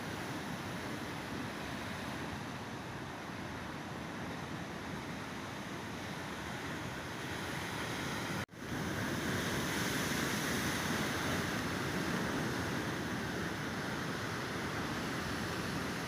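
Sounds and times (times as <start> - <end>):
sea waves breaking on shore: 0.0 - 16.0.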